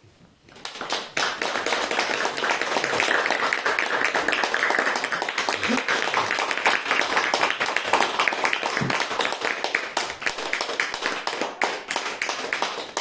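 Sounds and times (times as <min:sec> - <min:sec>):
crowd applauding: 0:00.6 - 0:13.0.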